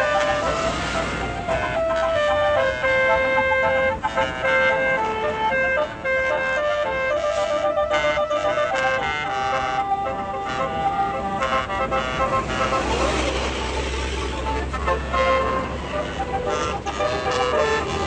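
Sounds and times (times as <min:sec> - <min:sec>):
bus horn playing a tune: 0:00.0 - 0:18.0.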